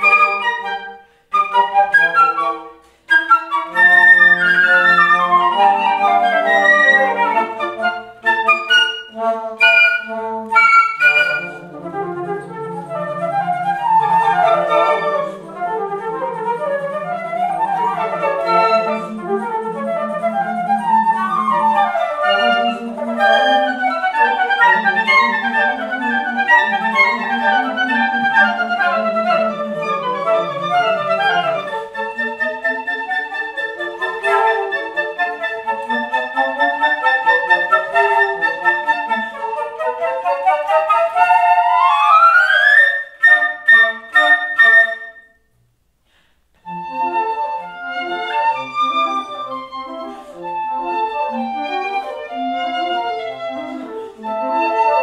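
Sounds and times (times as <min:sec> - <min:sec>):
flutes playing chamber music: 0:00.0 - 0:45.6, 0:46.2 - 0:55.0.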